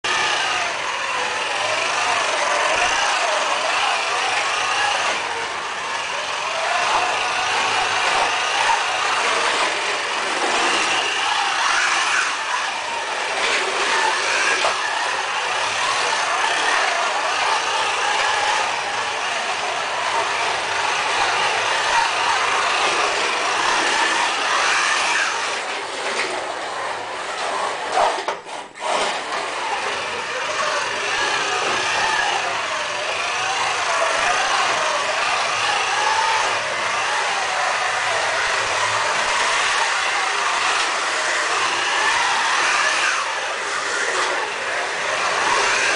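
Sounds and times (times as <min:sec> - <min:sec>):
slot car motors whining: 0:00.0 - 0:45.9.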